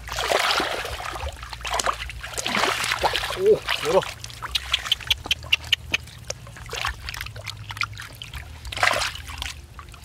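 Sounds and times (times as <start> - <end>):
hands splashing in shallow water: 0.0 - 9.7
water trickling: 0.0 - 10.0.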